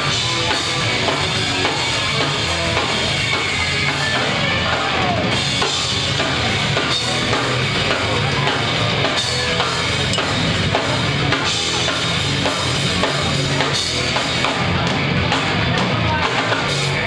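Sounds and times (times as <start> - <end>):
pounding drum kit: 0.0 - 17.0
punk band playing live: 0.0 - 17.0.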